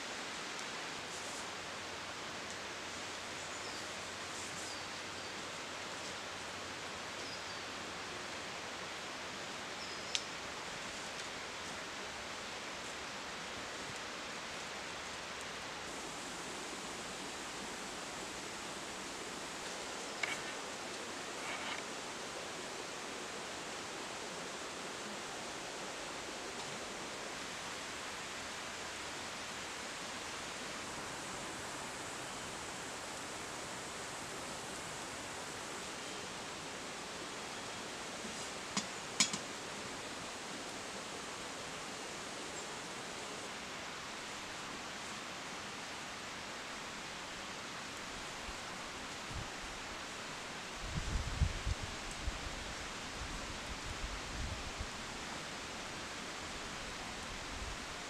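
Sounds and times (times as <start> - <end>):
outdoor background hiss: 0.0 - 58.0.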